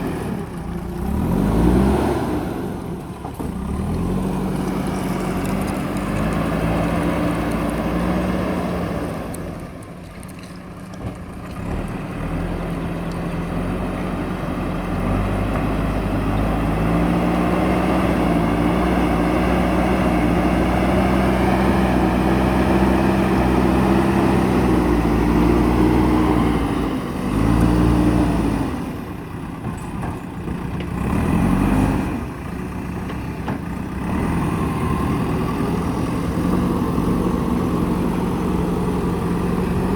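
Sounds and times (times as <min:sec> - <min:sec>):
diesel engine revving: 0:00.0 - 0:09.9, 0:11.0 - 0:39.9.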